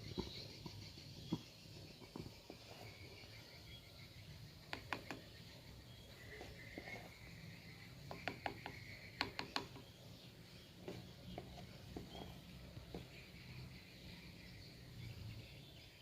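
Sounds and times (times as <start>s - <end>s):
faint insect chirping: 0.0s - 16.0s.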